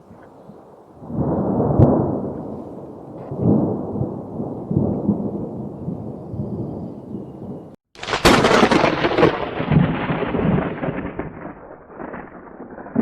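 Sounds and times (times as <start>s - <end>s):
thunder rumbling: 0.9s - 13.0s
sharp thunder crack: 1.0s - 13.0s.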